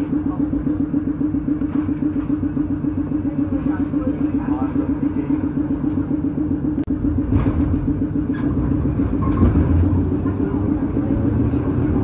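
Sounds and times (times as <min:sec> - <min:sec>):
streetcar fast-pulsing hum: 0:00.0 - 0:12.0
streetcar low rumble: 0:00.0 - 0:12.0.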